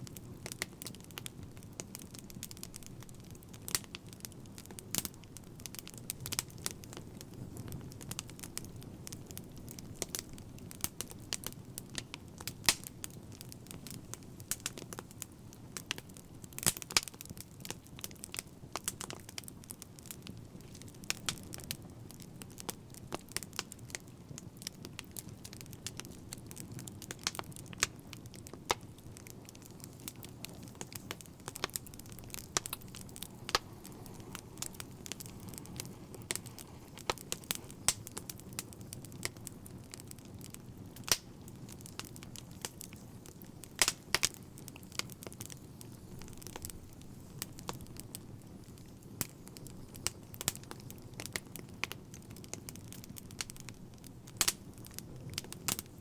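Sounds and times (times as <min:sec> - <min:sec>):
low rumble of burning fire: 0:00.0 - 0:56.0
wood fire popping and snapping: 0:00.0 - 0:56.0.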